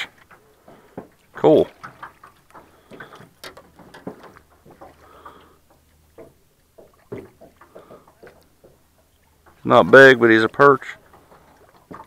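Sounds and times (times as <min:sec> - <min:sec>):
fish being handled knocks and rustles: 0:00.2 - 0:09.7, 0:11.1 - 0:12.0.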